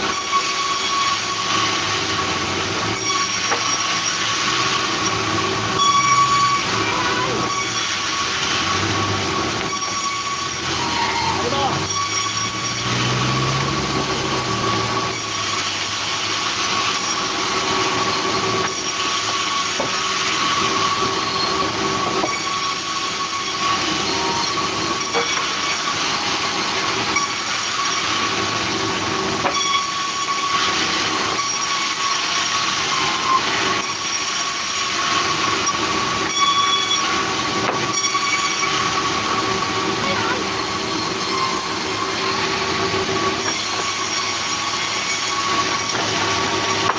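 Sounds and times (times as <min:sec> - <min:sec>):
sawmill saw cutting timber: 0:00.0 - 0:46.9.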